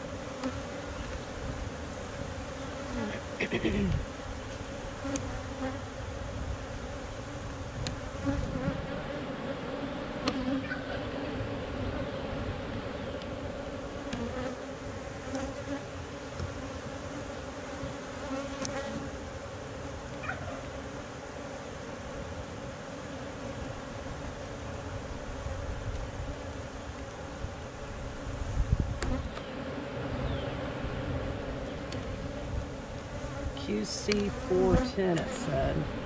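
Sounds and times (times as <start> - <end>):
bees buzzing: 0.0 - 28.4, 29.0 - 36.0.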